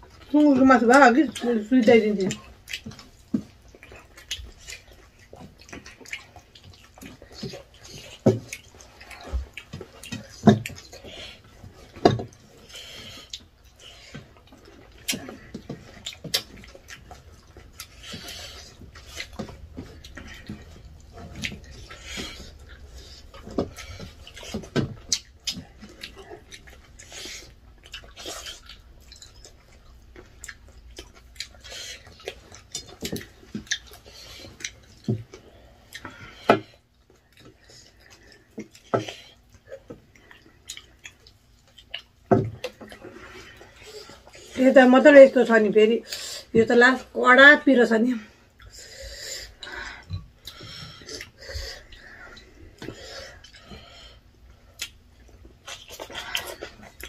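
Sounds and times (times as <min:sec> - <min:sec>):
chewing and wet mouth sounds: 0:00.0 - 0:57.0.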